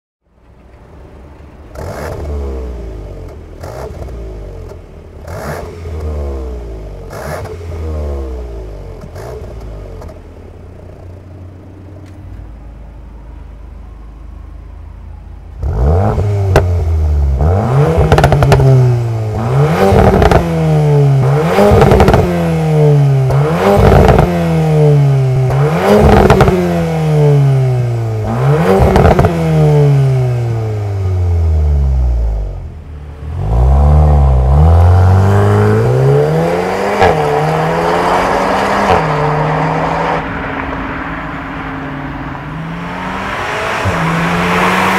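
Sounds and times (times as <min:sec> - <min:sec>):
car engine revving: 0:01.5 - 0:12.3, 0:15.5 - 0:44.9.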